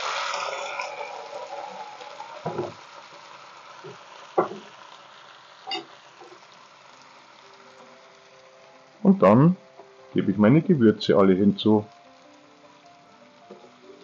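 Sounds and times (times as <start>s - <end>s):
wine sizzling in frying pan: 0.0s - 14.0s.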